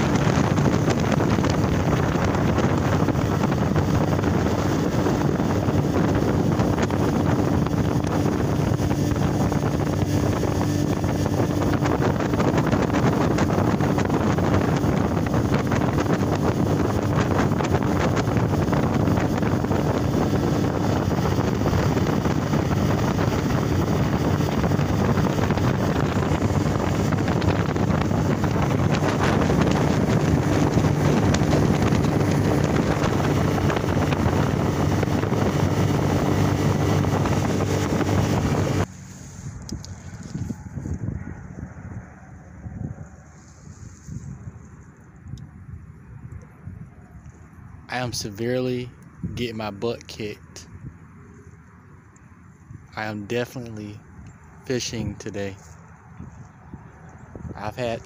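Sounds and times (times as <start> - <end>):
boat motor running: 0.0 - 43.6, 52.1 - 58.0
wind buffeting microphone: 0.0 - 58.0.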